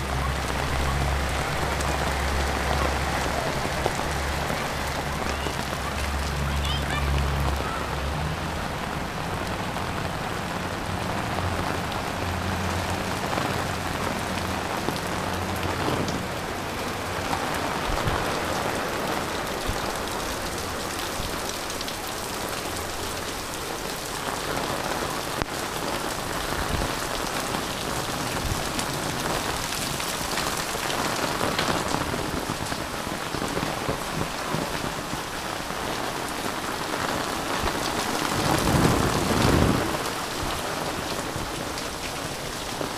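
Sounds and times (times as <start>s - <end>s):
heavy rain on roofs and pavement: 0.0s - 42.9s.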